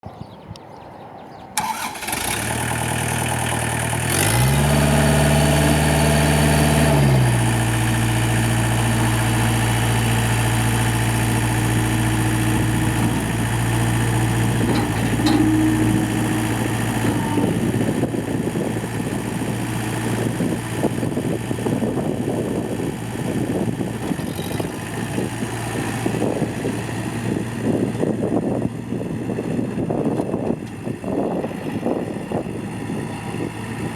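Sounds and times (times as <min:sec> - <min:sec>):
tractor diesel engine idling and revving: 0:01.6 - 0:33.9.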